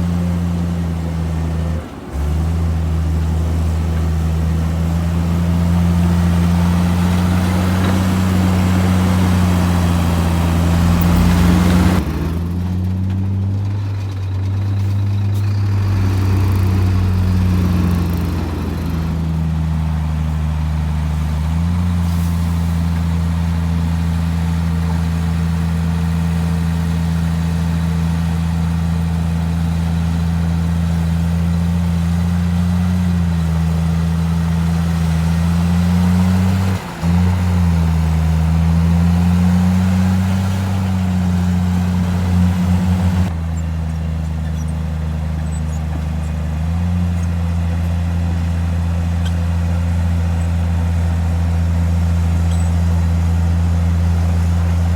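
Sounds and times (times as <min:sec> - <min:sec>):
heavy diesel engine under load: 0:00.0 - 0:54.9.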